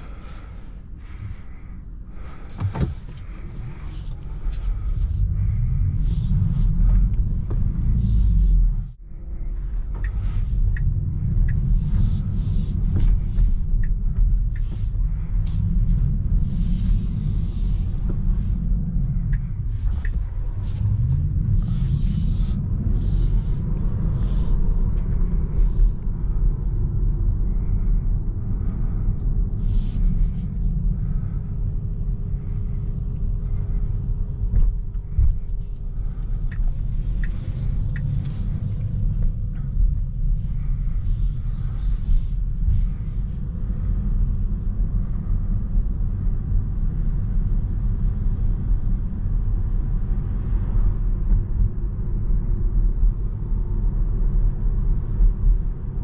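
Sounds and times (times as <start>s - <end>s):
tyre road rumble: 0.0s - 56.0s.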